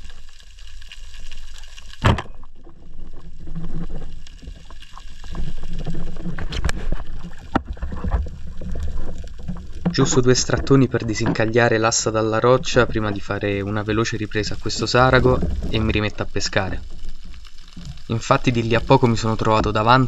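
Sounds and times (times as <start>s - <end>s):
low underwater rumble: 0.0s - 20.0s
muffled water noise: 0.0s - 20.0s.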